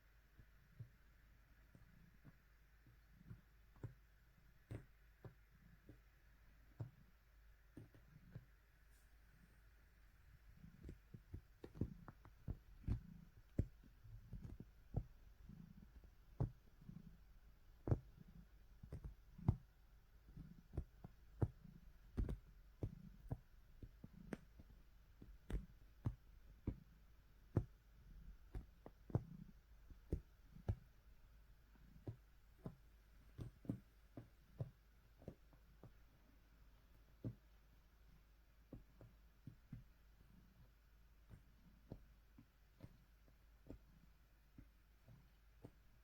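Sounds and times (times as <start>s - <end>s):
cat kneading with paws: 0.3s - 46.0s.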